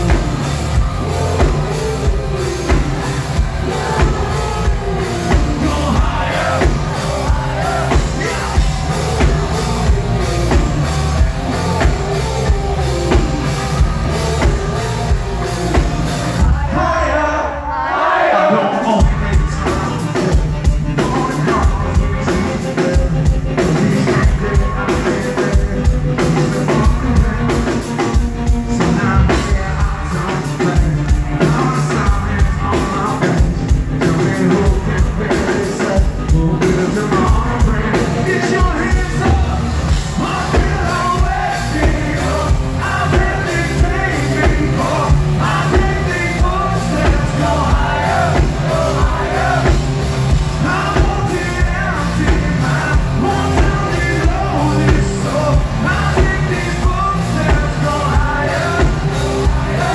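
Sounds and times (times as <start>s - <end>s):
pounding drum beat: 0.0s - 17.0s, 19.0s - 59.9s
hard rock band playing: 0.0s - 17.4s, 18.7s - 59.9s
man singing: 0.0s - 17.7s, 18.3s - 59.9s.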